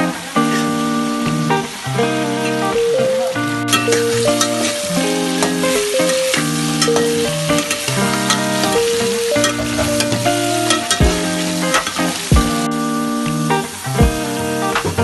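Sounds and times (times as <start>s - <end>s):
food sizzling in hot oil: 0.0s - 14.8s
background music: 0.0s - 15.0s.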